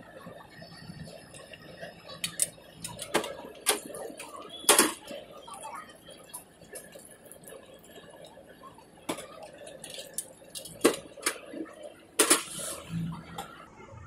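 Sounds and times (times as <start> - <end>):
food frying in hot oil: 0.0 - 13.4.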